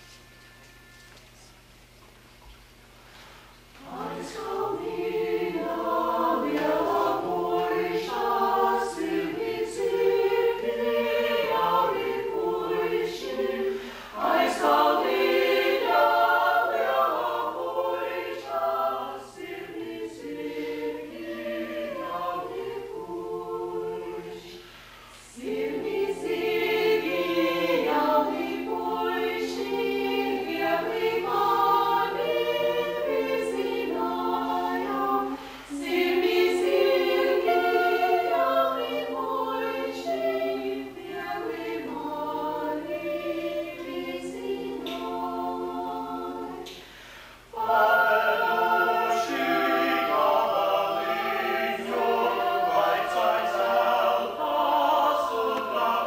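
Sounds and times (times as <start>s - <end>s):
vocal ensemble singing a cappella: 3.1s - 56.0s.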